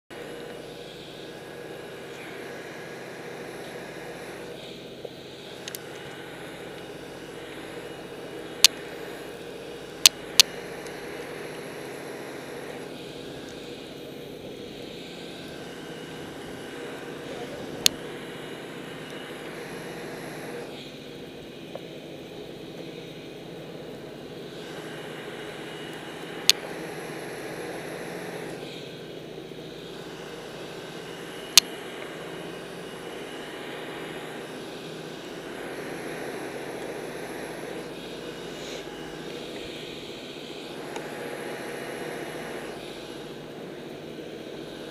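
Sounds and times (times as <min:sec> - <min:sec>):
low steady hum: 0:00.1 - 0:44.9.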